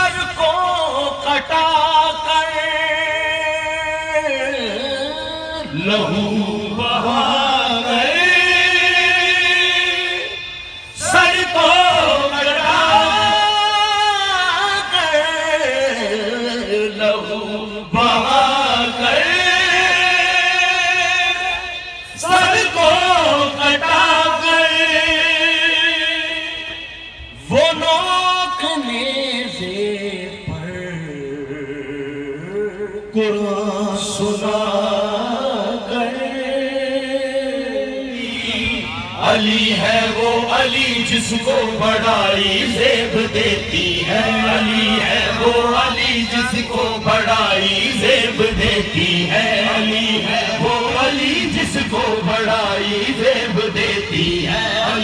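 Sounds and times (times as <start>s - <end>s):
man singing unaccompanied: 0.0s - 55.0s.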